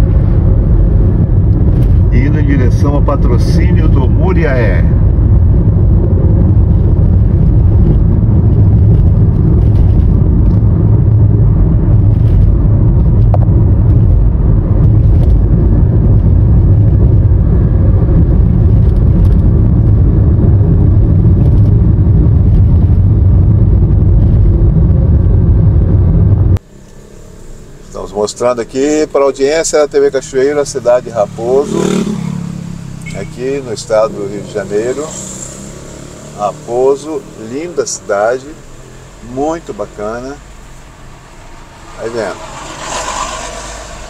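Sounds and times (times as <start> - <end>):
tyres on paved road: 0.0 - 44.0
vehicle engine rumble: 0.0 - 44.0.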